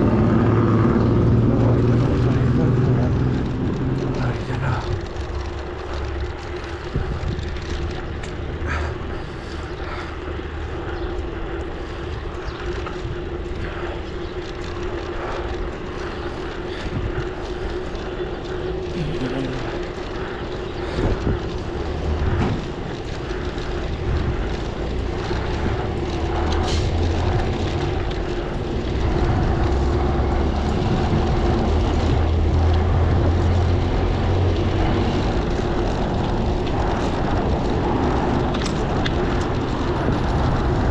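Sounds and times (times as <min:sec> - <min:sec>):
tyre and road hum: 0:00.0 - 0:40.9
wind buffeting microphone: 0:00.0 - 0:40.9.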